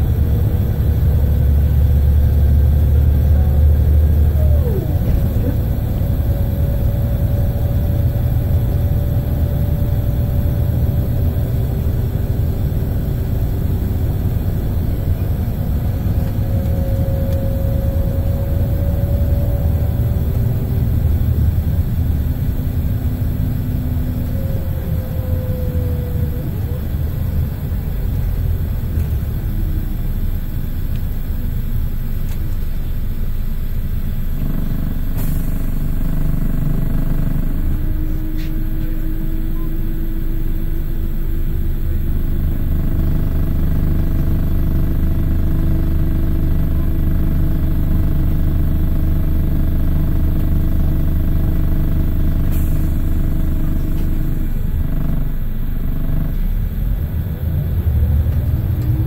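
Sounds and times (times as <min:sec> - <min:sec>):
bus diesel engine rumble: 0:00.0 - 0:59.0
gearbox whine: 0:00.0 - 0:59.0.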